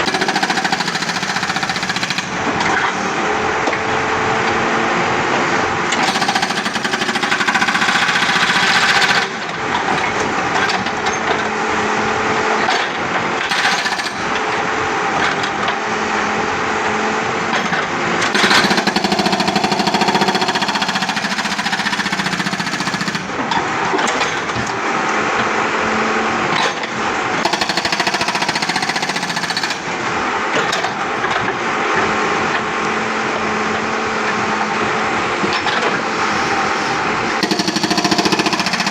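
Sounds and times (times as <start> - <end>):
hydraulic breaker hammering concrete: 0.0 - 4.8, 5.4 - 25.2, 26.6 - 38.9.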